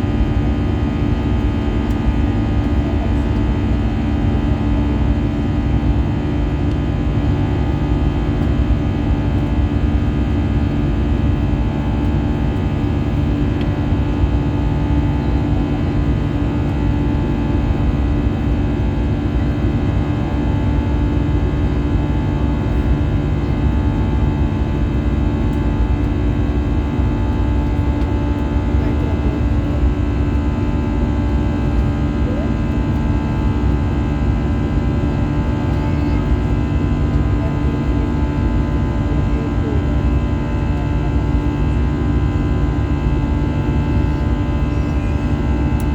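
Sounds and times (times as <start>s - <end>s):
airplane cabin engine drone: 0.0s - 45.9s.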